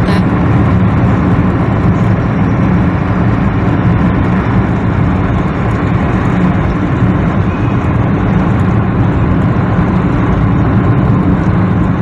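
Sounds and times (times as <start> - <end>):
car road noise from inside: 0.0 - 12.0.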